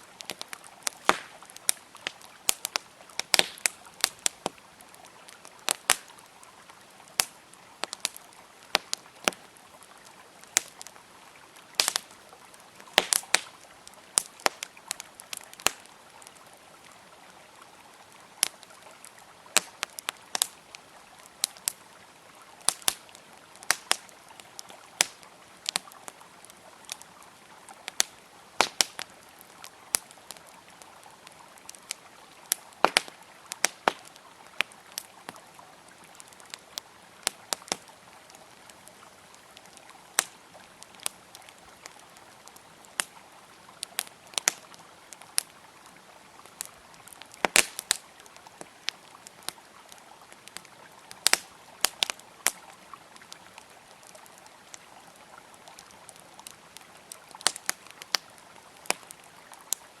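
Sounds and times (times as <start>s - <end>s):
campfire crackling and popping: 0.0s - 60.0s
flowing river water: 0.0s - 60.0s.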